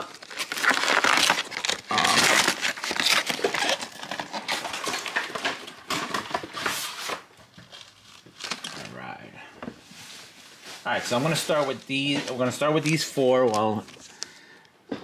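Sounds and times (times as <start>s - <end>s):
packaging crinkling and rustling: 0.0s - 9.2s, 9.9s - 14.6s.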